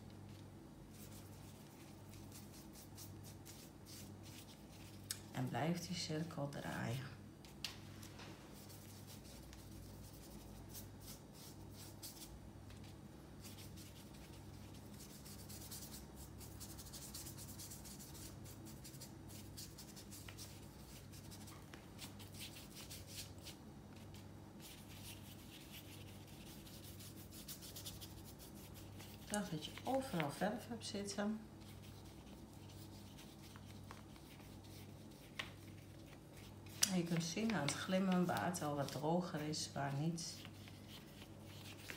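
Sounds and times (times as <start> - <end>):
paintbrush brushing on paper: 0.3 - 5.1, 8.5 - 30.4, 31.5 - 41.9.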